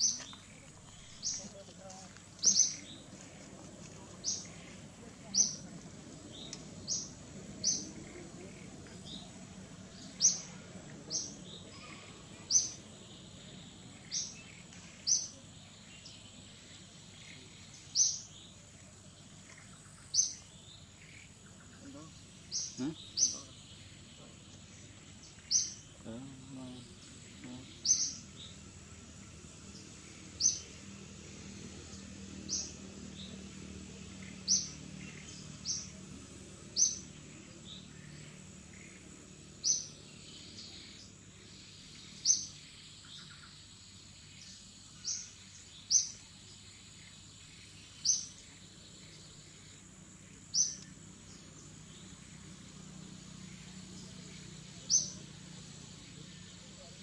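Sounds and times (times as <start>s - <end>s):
bird chirping: 0.0s - 57.0s
insect drone: 0.0s - 57.0s.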